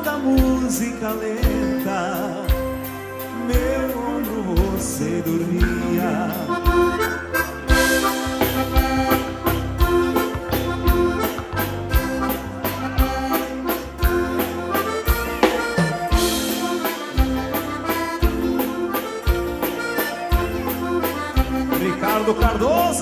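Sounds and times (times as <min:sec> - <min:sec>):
accordion melody: 0:00.0 - 0:23.0
bass: 0:00.0 - 0:23.0
drums: 0:00.0 - 0:23.0.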